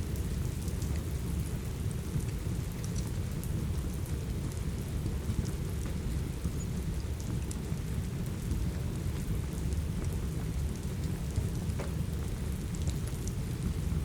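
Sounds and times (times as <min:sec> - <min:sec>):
deep continuous rumble: 0:00.0 - 0:14.0
steady rain: 0:00.0 - 0:14.0.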